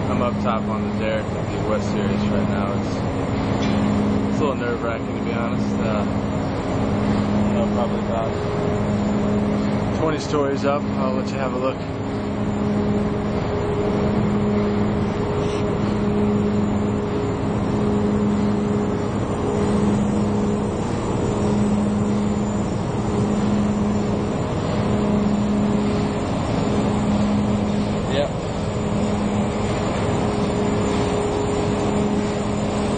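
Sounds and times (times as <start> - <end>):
machinery noise: 0.0 - 32.9
pulsing low hum: 0.0 - 32.9
steady higher hum: 0.0 - 32.9
wind: 0.0 - 32.9.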